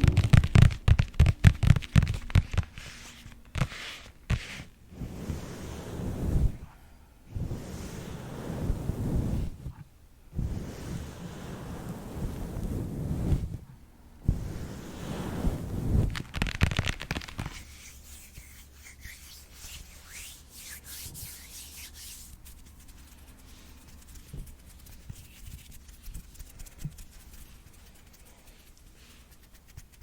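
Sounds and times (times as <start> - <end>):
rubbing and scratching on microphone: 0.0 - 6.7, 7.4 - 9.8, 10.4 - 30.0.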